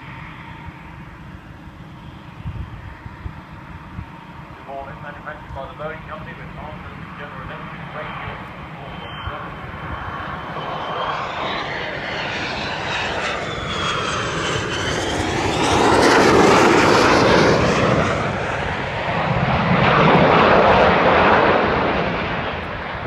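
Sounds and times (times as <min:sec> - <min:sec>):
jet engine roar with whine: 0:00.0 - 0:23.0.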